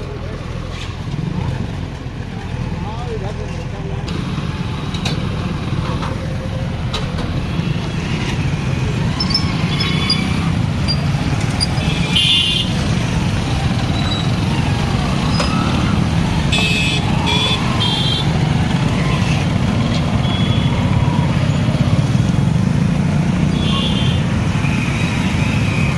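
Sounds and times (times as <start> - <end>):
motorcycle engines droning: 0.0 - 25.9.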